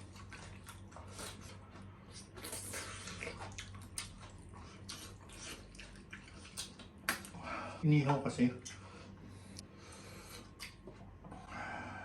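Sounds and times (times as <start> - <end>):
people chewing meat: 0.0 - 7.8, 8.6 - 12.0
low electrical hum: 0.0 - 12.0.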